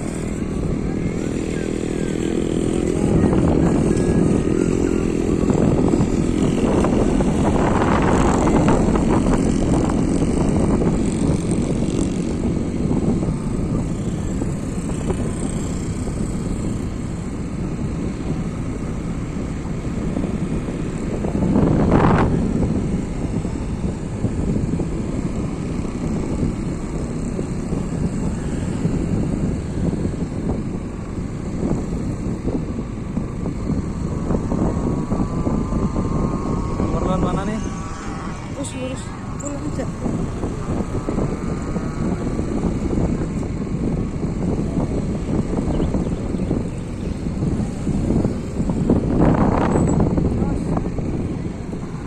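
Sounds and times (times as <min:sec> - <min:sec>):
vehicle engine running: 0:00.0 - 0:52.0
wind rumbling on microphone: 0:00.0 - 0:52.0.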